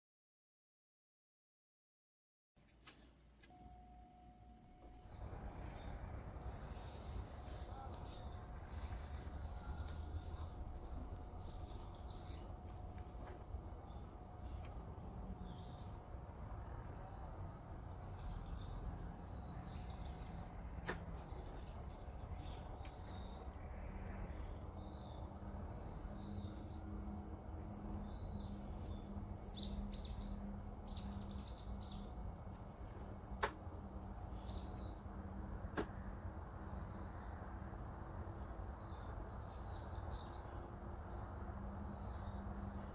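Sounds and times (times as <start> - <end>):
insects chirping: 4.8 - 42.9.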